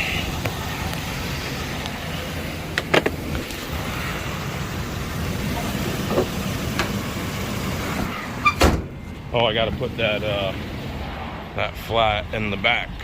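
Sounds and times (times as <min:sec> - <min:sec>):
engine idling: 0:00.0 - 0:10.7.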